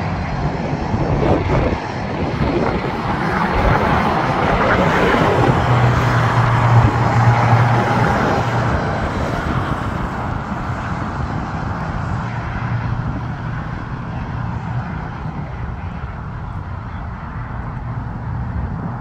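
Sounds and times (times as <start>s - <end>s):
aircraft engines humming: 0.0s - 19.0s
broad rushing jet noise: 0.0s - 19.0s.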